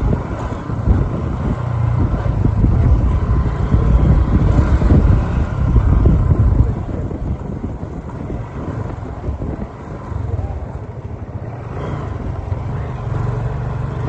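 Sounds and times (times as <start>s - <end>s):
road vehicle rumble: 0.0s - 14.0s
wind buffeting microphone: 0.0s - 14.0s.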